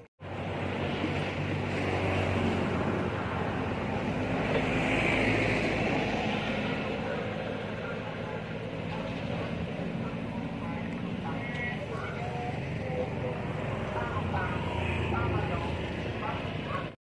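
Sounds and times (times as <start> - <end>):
vehicle engine hum passing: 0.0 - 17.0.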